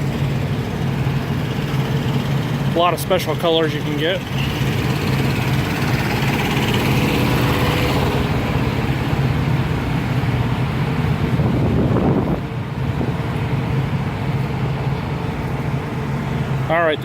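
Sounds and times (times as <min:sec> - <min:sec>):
diesel truck engines idling: 0:00.0 - 0:17.0.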